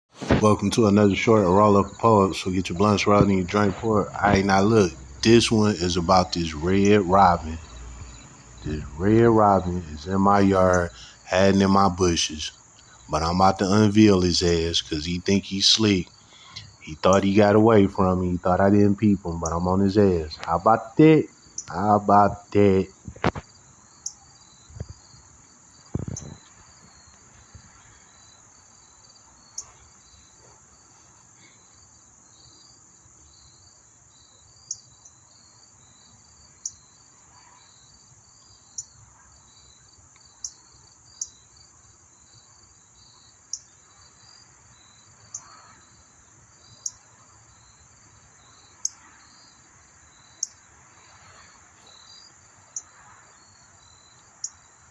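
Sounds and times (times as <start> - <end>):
crickets and insects chirping: 0.1 - 54.9.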